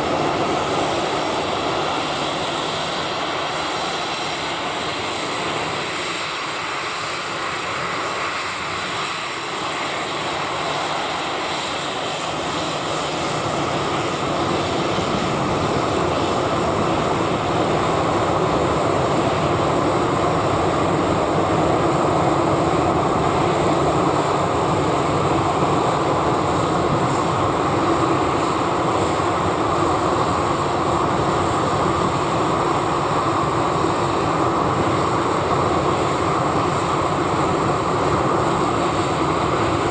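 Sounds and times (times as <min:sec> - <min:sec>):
jet engines at takeoff power: 0:00.0 - 0:39.9.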